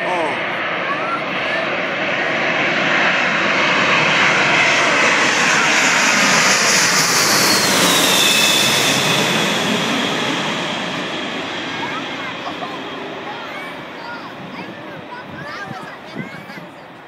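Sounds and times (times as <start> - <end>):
jet plane passing by: 0.0 - 17.0.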